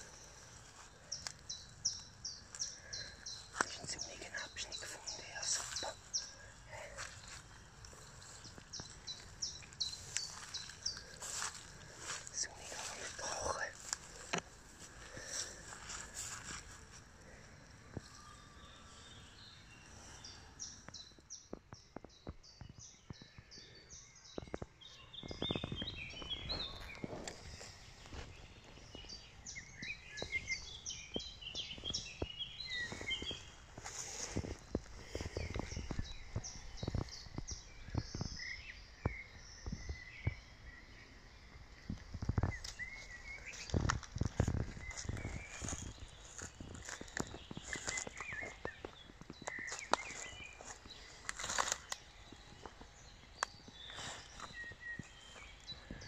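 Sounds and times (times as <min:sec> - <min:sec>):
twigs and leaves crackling underfoot: 0:00.0 - 0:19.4, 0:25.2 - 0:40.4, 0:41.6 - 0:56.0
small birds chirping: 0:00.0 - 0:56.0
songbird singing: 0:00.0 - 0:56.0.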